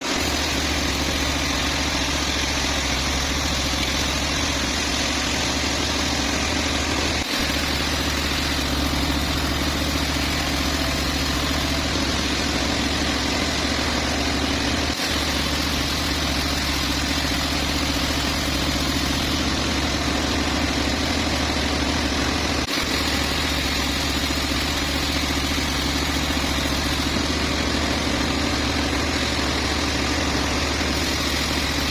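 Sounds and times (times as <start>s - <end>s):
sawmill machinery droning: 0.0s - 31.9s.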